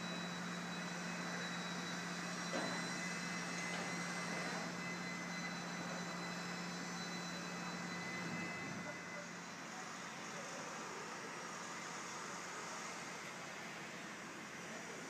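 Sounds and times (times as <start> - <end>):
construction machinery noise: 0.0 - 15.0.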